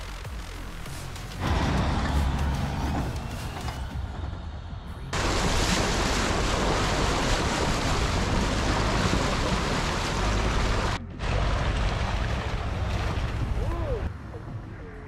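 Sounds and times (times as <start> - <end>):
water rushing and splashing: 0.4 - 4.0, 5.1 - 14.1.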